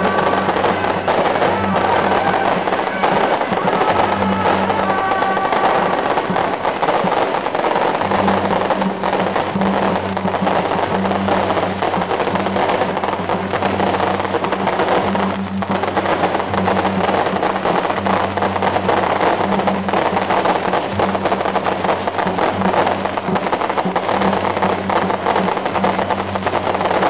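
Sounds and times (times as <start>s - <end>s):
drums and cymbals beating: 0.0s - 27.0s
low steady hum: 0.0s - 27.0s.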